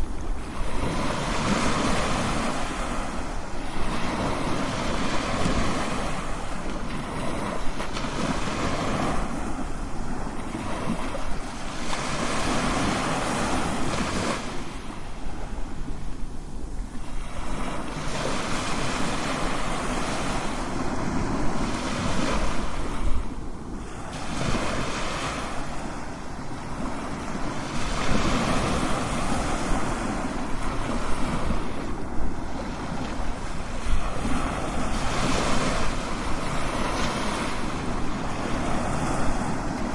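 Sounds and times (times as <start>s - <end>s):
ocean waves crashing: 0.0s - 39.9s.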